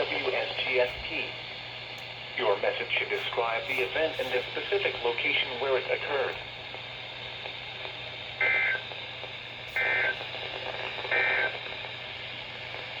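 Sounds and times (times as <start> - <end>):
radio hiss and hum: 0.0 - 13.0.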